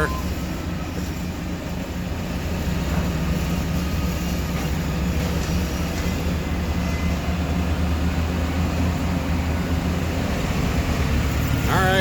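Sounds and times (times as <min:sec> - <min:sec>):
forklift engine droning: 0:00.0 - 0:12.0.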